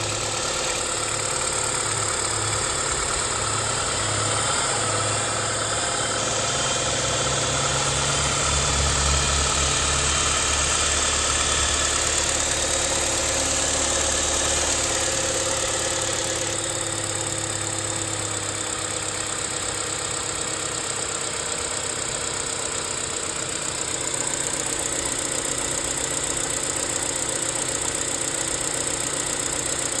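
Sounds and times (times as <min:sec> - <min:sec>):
car engine idling with rattle: 0:00.0 - 0:30.0.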